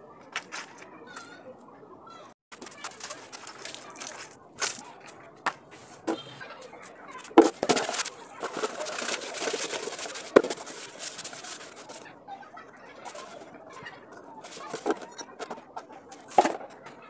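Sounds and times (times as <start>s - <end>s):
rustling and rubbing: 2.5s - 17.0s.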